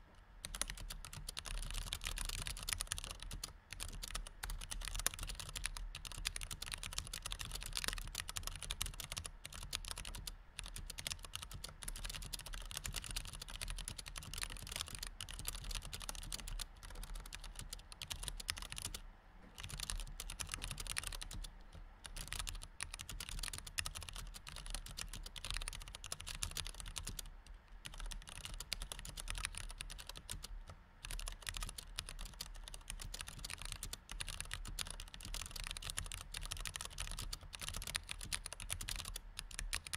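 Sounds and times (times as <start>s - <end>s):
fast typing on keyboard: 0.4s - 39.9s.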